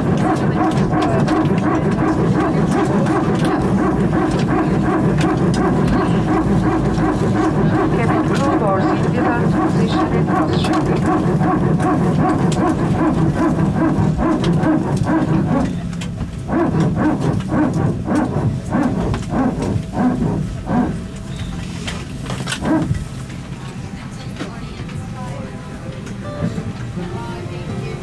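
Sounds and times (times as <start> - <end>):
hydraulic pump barking pulses: 0.0 - 23.2
hydraulic pump whine: 0.0 - 23.6.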